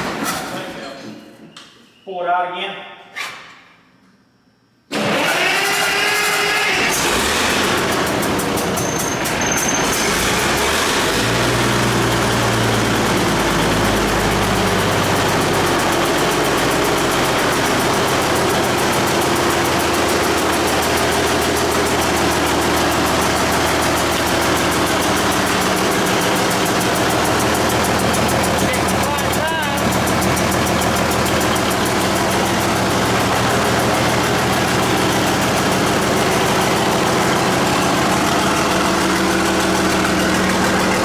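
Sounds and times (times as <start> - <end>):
diesel engine idling: 4.9 - 41.0.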